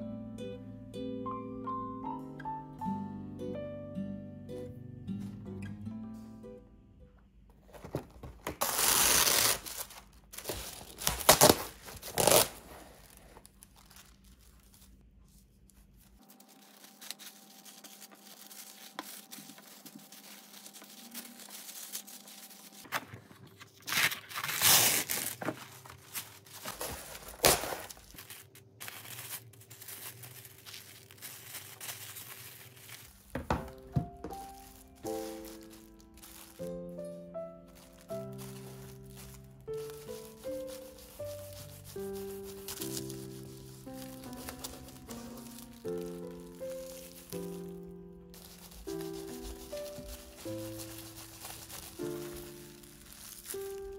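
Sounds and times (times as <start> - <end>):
plastic wrap rustling and tearing: 7.6 - 53.9.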